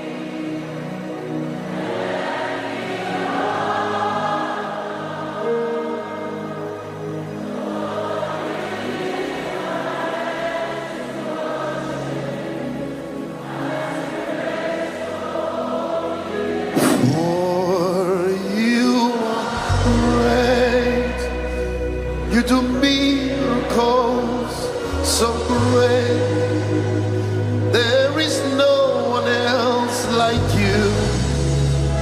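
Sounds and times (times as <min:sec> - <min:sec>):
choir and congregation singing: 0:00.0 - 0:32.0
solo voice singing held notes: 0:00.0 - 0:32.0.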